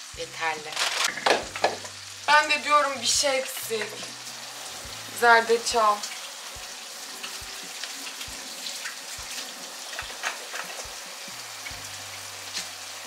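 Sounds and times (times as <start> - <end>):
chicken sizzling in a pan: 0.0 - 13.0
water at a rolling boil: 0.0 - 13.0.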